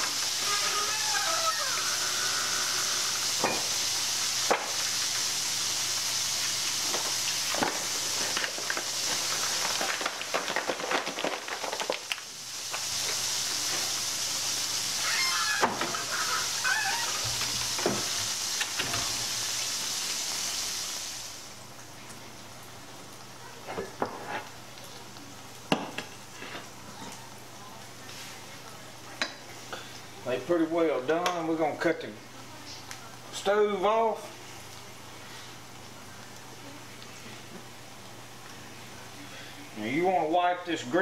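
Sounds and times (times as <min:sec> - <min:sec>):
deep frying sizzle: 0:00.0 - 0:41.0.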